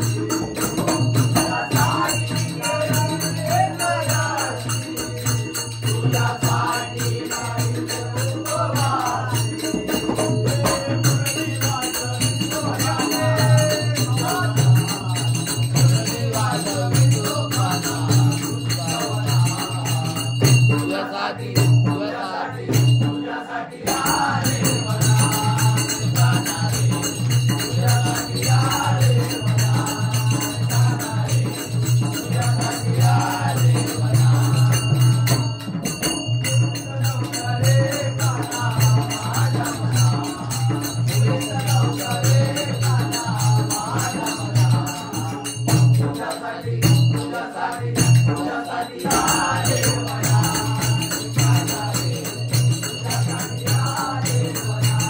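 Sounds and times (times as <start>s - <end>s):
jingling percussion: 0.0s - 55.0s
men singing in unison: 0.0s - 55.0s.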